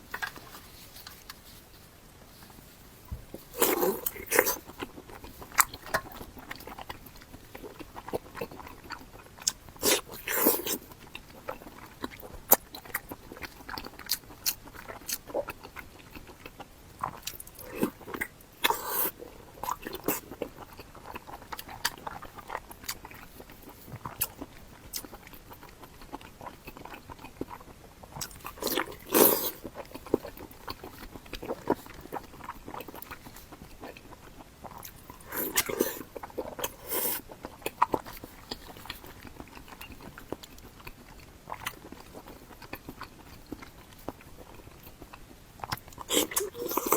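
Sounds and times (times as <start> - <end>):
person chewing crunchy food: 2.5 - 46.9.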